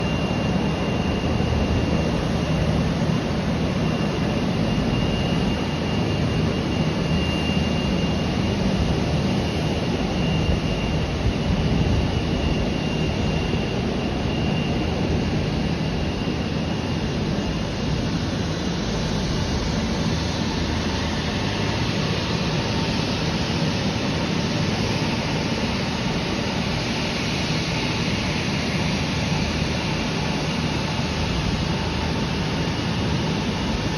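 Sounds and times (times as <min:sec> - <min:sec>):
high jet engine whine: 0:00.0 - 0:33.9
jet engine rumble: 0:00.0 - 0:33.9.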